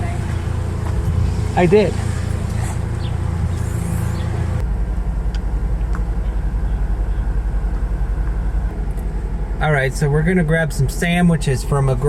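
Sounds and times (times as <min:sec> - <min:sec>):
car engine pulsing rumble: 0:00.0 - 0:12.0.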